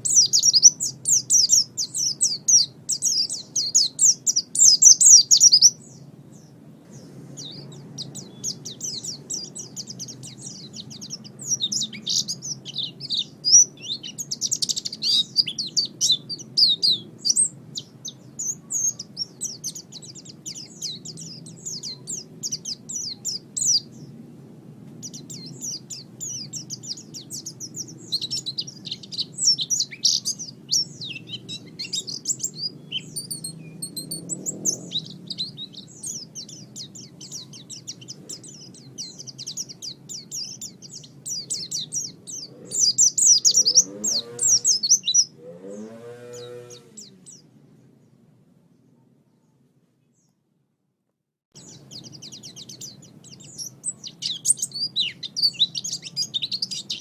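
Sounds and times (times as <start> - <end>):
bird twittering chirps: 0.0 - 24.2, 24.9 - 50.4, 51.6 - 57.0.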